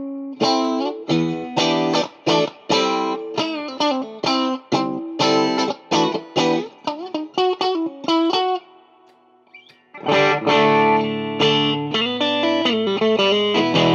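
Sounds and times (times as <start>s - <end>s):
electric guitar playing: 0.0s - 13.9s.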